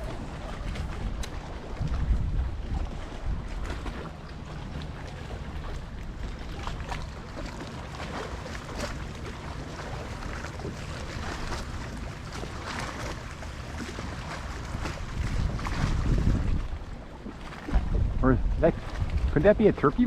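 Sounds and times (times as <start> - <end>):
water lapping against a kayak hull: 0.0 - 20.0
wind rumbling on microphone: 0.0 - 20.0.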